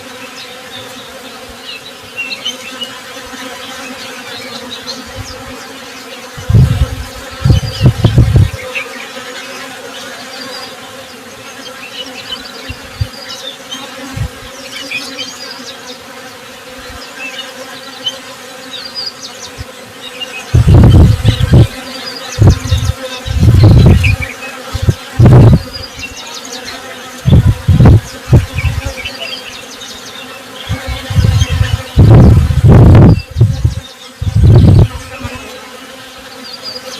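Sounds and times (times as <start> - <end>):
small birds chirping: 0.0 - 35.6, 36.2 - 36.9
honey bees buzzing: 0.0 - 36.9.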